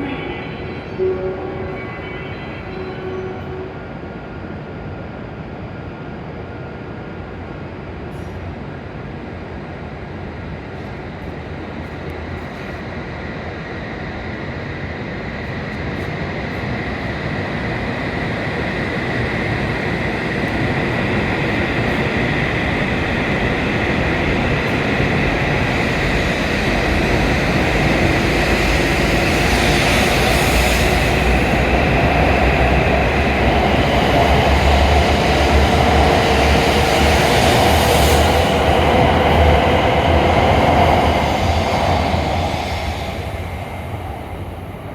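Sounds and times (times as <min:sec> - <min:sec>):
rumble of train wheels: 0:00.0 - 0:44.9.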